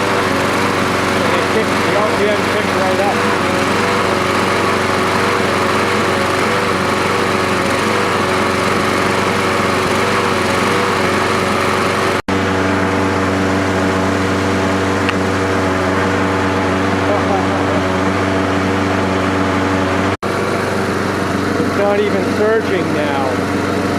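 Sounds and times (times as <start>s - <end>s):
lawn mower engine running: 0.0s - 23.9s.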